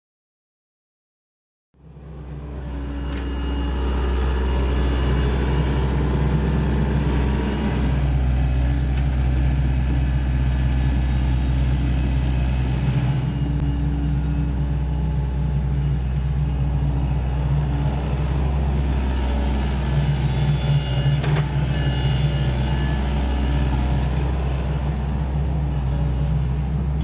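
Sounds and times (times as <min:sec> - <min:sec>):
diesel engine running: 0:01.8 - 0:27.0.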